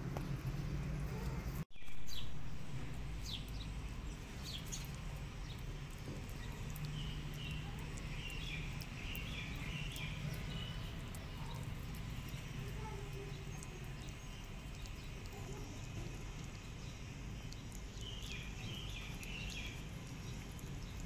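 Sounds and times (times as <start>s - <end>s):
kitten chewing wet food: 0.0s - 21.0s
low background hum: 0.0s - 21.0s.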